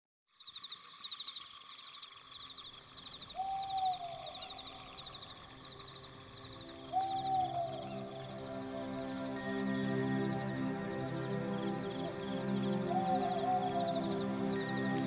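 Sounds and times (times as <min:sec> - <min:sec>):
crickets chirping: 0:00.3 - 0:15.0.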